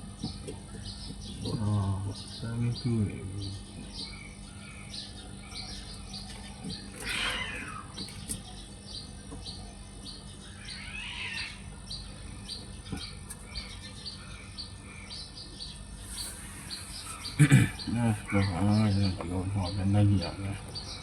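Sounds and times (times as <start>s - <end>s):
loud sweeping bird calls: 0.0s - 21.0s
small birds chirping: 0.0s - 21.0s
steady low hum: 0.0s - 21.0s.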